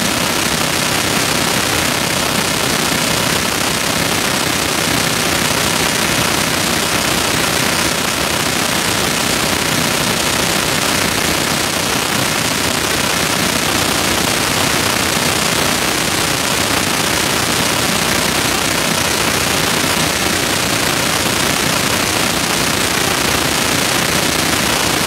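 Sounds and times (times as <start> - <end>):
swimming pool hall crowd and splashing: 0.0 - 25.0.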